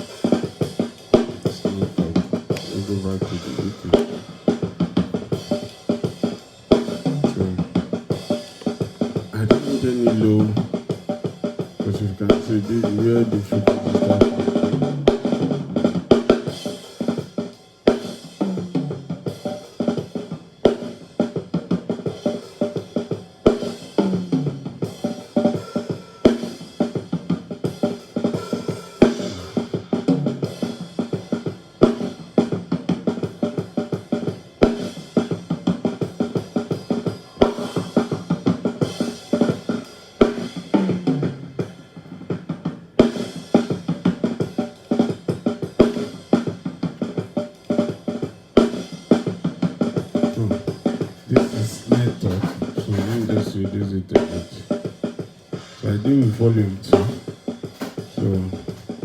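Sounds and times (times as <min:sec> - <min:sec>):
drum kit playing a groove: 0:00.0 - 0:59.0.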